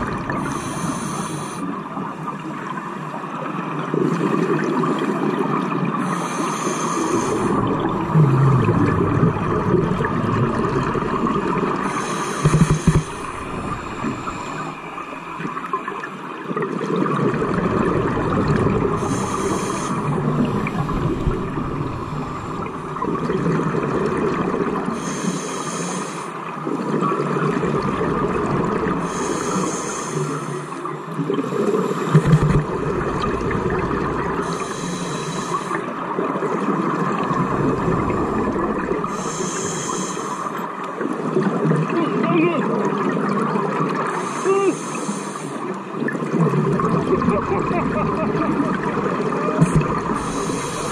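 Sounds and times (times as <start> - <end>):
exhaled bubbles hissing: 0.0 - 2.6, 3.8 - 41.7, 42.9 - 50.9
steady underwater rush: 0.0 - 50.9.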